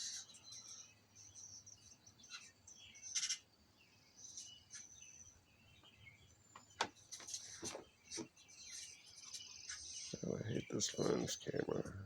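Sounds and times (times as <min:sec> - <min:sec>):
songbirds chirping on tv: 0:00.0 - 0:12.0.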